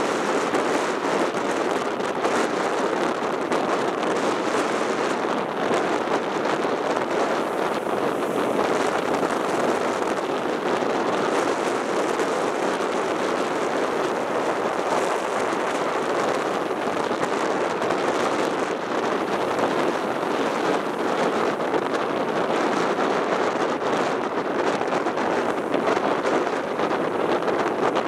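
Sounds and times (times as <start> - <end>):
surf breaking over rocks: 0.0 - 28.0.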